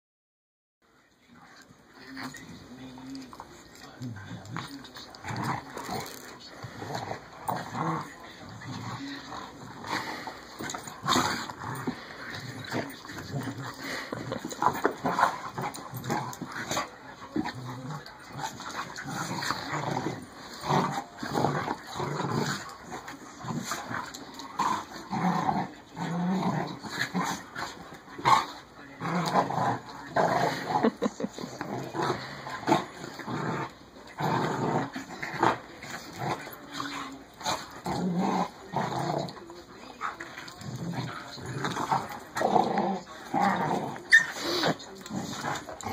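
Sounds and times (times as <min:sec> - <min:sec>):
dogs growling while play-fighting: 0:01.5 - 0:45.9.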